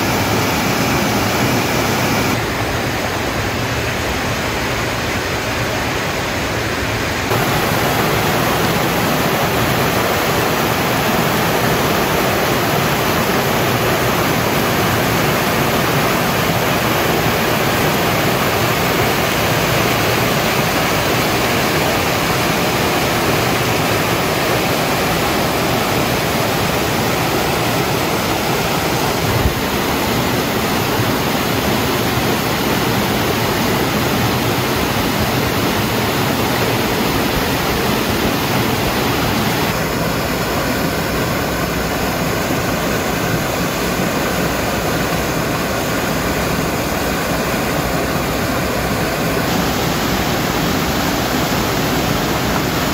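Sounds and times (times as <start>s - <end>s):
waterfall rushing into pool: 0.0s - 52.9s.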